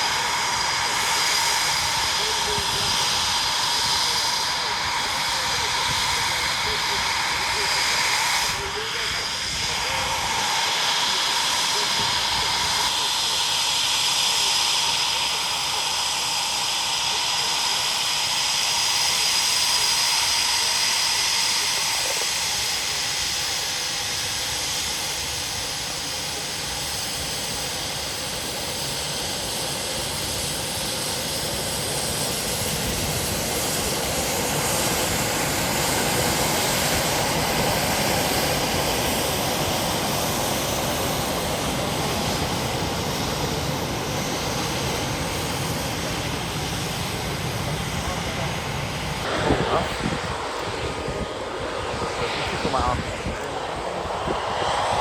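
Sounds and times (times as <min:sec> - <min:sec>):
jet engine deep rumble: 0:00.0 - 0:55.0
jet engine high whine: 0:00.0 - 0:55.0.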